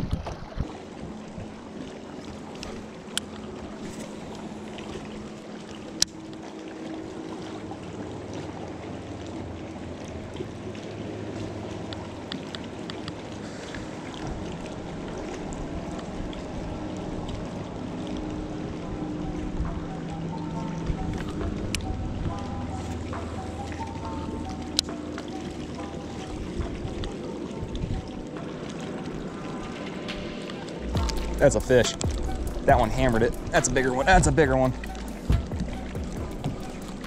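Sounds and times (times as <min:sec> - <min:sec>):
water lapping: 0:00.0 - 0:37.0.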